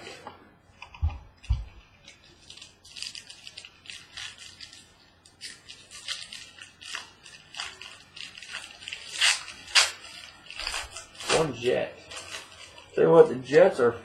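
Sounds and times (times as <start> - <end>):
wrapper crinkling being torn: 0.8 - 13.7.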